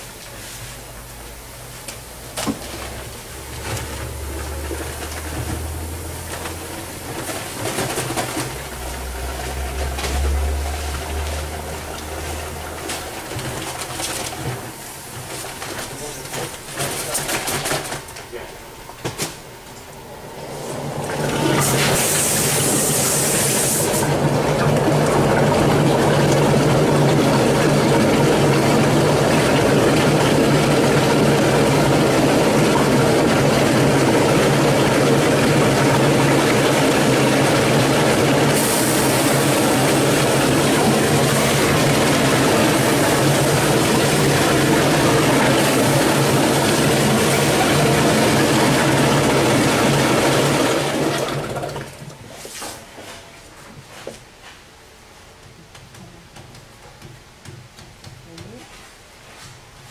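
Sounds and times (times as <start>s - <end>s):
mixer motor and paddle churning: 1.6s - 18.2s, 20.0s - 53.4s.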